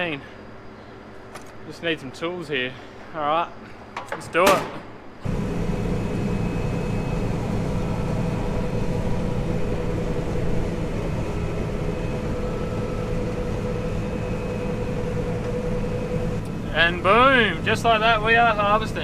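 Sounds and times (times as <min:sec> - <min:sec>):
combine harvester droning: 0:00.0 - 0:19.0.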